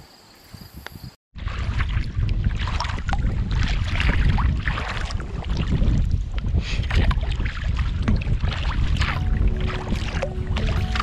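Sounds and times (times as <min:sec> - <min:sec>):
wind rumble on microphone: 0:00.5 - 0:11.0
paddle strokes splashing: 0:01.4 - 0:11.0
water washing along hull: 0:01.4 - 0:11.0.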